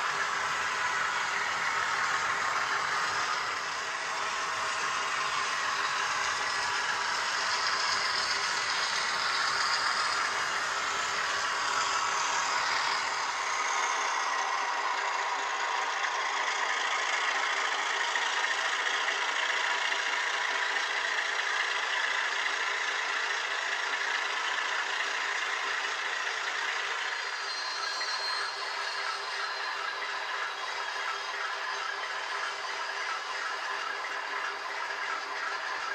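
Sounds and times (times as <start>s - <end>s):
model train wheels on rails: 0.0s - 35.9s.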